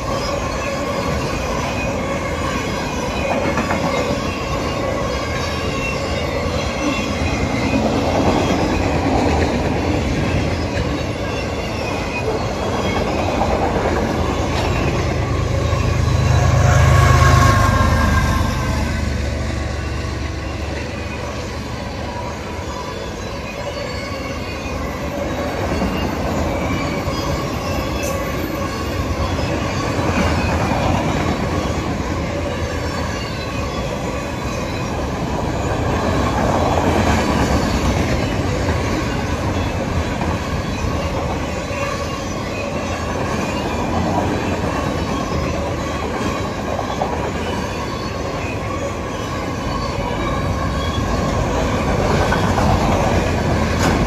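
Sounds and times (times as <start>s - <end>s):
train running on rails: 0.0s - 54.0s.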